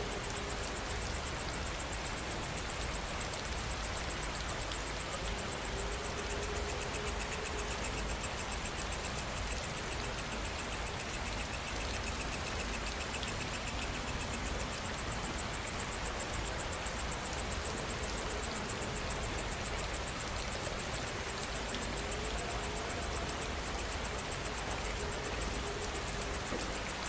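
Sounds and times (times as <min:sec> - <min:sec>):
high pulsing insect call: 0:00.0 - 0:27.0
lower pulsing insect call: 0:00.0 - 0:27.0
steady rain: 0:00.0 - 0:27.0.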